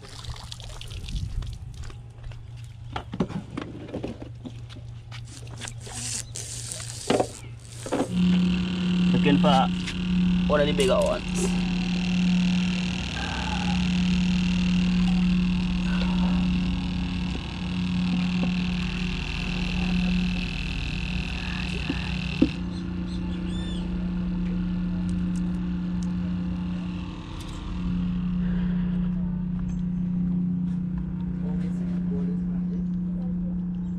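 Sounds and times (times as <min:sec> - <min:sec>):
machine humming: 0:04.8 - 0:33.9.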